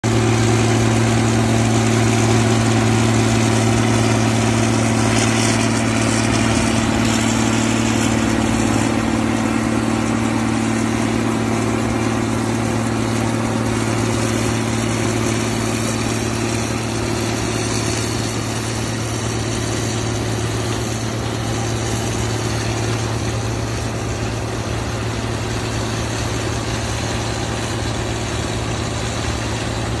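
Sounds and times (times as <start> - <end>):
combine threshing machinery: 0.0 - 30.0
tractor diesel engine running: 0.0 - 30.0.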